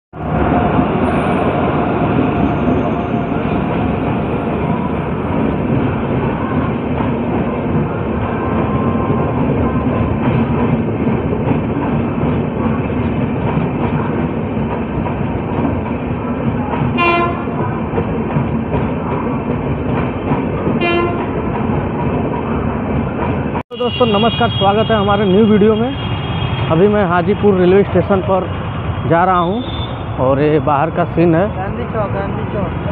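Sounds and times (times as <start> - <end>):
train wheels rumbling on rails: 0.2 - 32.9.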